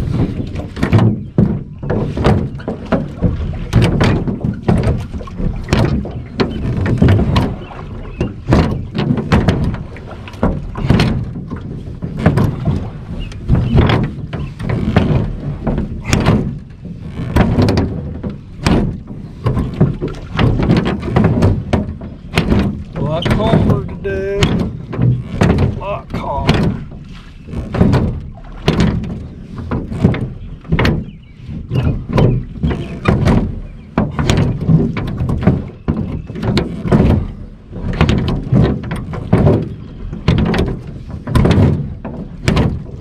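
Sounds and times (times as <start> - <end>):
oars knocking in metal oarlocks: 0.0 - 43.0.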